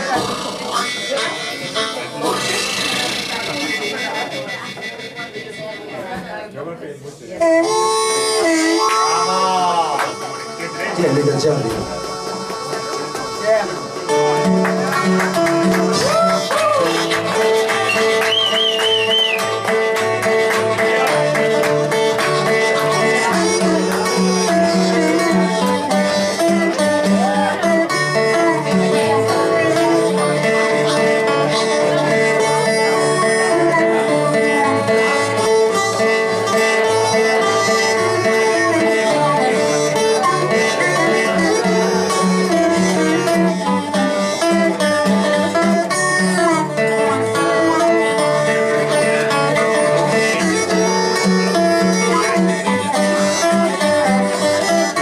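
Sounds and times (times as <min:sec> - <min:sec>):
harmonica: 0:00.0 - 0:06.2, 0:07.3 - 0:55.0
plucked guitar: 0:00.0 - 0:06.4, 0:07.3 - 0:55.0.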